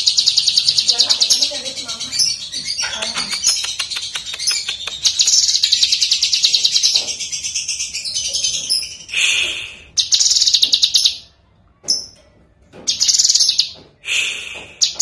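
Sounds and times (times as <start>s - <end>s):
bird singing trills: 0.0s - 12.2s, 12.8s - 13.8s, 14.8s - 15.0s.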